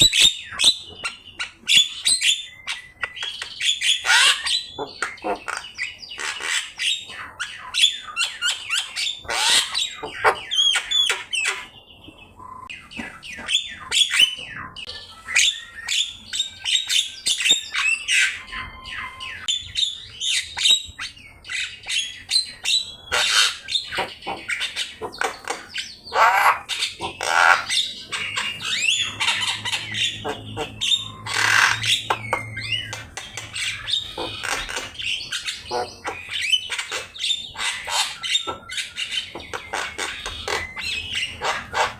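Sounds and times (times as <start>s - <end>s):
myna bird singing: 0.0s - 41.9s.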